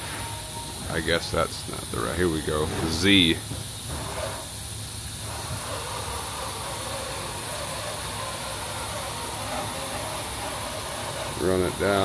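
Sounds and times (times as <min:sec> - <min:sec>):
milling machine hiss: 0:00.0 - 0:12.0.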